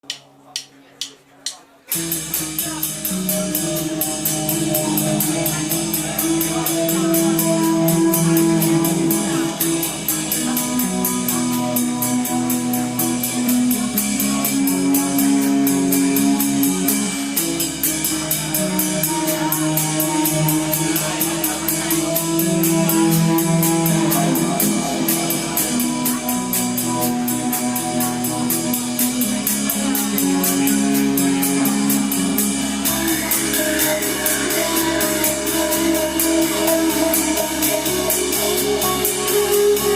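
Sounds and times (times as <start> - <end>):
drum kit beat on cymbals: 1.9 - 39.9
electric guitar long notes: 1.9 - 39.9.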